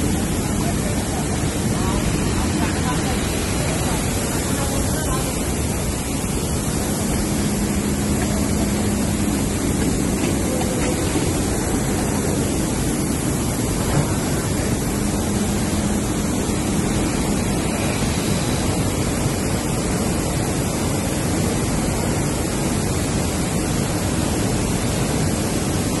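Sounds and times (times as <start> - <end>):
machinery line running: 0.0 - 26.0.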